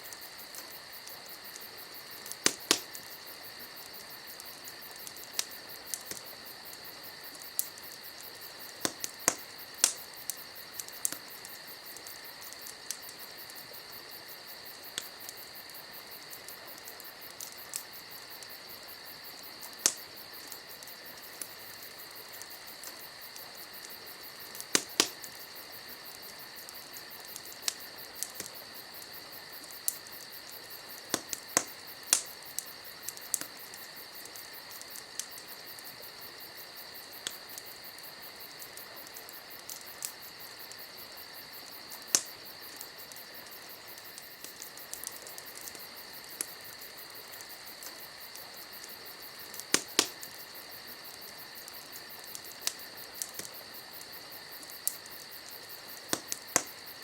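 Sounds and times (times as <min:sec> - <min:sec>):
burning wood popping: 0:00.0 - 0:36.0, 0:37.0 - 0:57.0
campfire crackling: 0:00.0 - 0:57.0
crickets chirping: 0:00.0 - 0:57.0.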